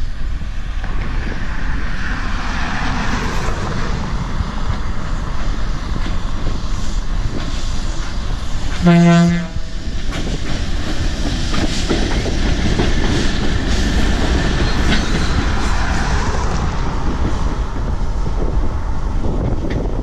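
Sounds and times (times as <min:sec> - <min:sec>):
diesel locomotive rumble: 0:00.0 - 0:20.0.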